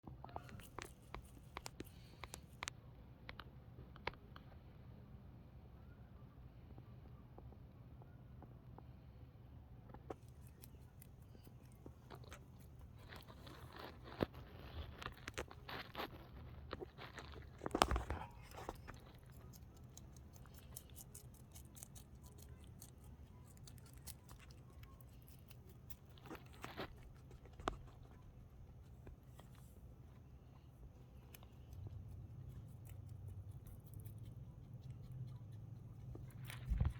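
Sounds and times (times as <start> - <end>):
rabbit munching lettuce: 0.1 - 6.0, 6.6 - 36.9.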